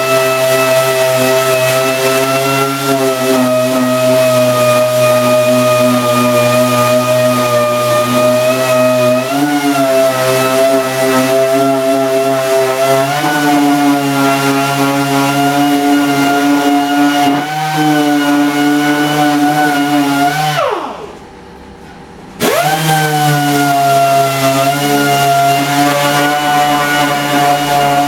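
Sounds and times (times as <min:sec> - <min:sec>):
orbital sander sanding: 0:00.0 - 0:21.1, 0:22.4 - 0:28.0.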